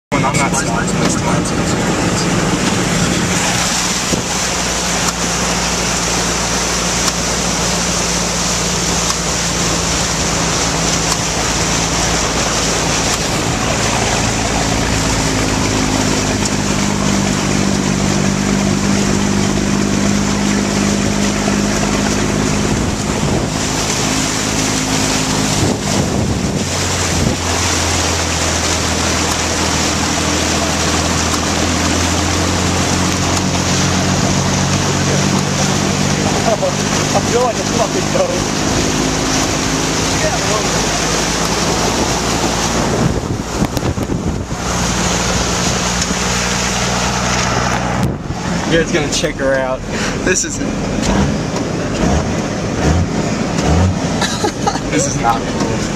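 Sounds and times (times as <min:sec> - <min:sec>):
vehicle engine running: 0:00.0 - 0:55.9
water rushing and splashing: 0:00.0 - 0:55.9.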